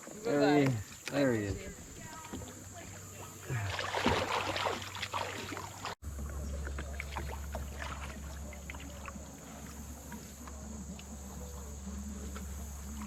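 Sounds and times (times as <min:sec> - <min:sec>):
water splashing around kayak: 0:00.0 - 0:13.0
water dripping: 0:02.1 - 0:13.0.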